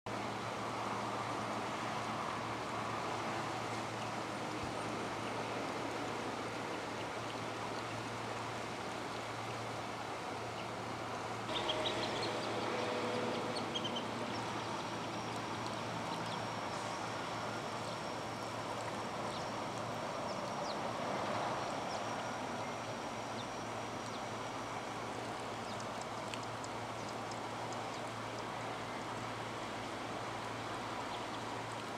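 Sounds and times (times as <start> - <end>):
outdoor low hum: 0.1 - 31.9.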